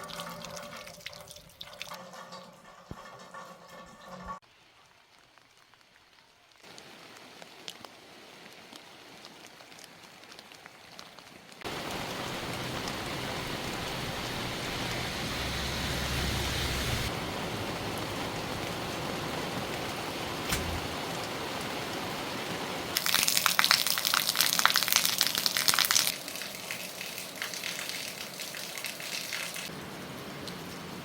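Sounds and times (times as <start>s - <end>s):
rain falling: 4.4s - 31.0s.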